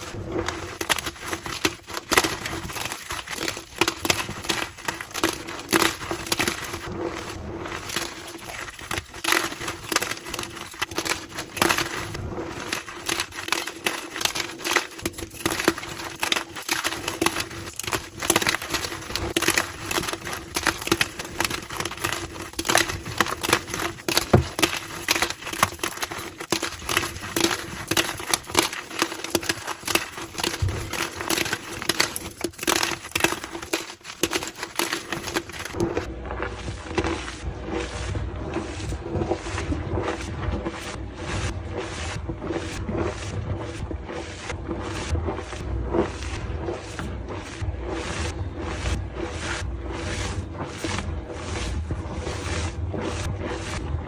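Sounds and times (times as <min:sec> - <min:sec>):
chalk crushed and crumbling: 0:00.0 - 0:54.0.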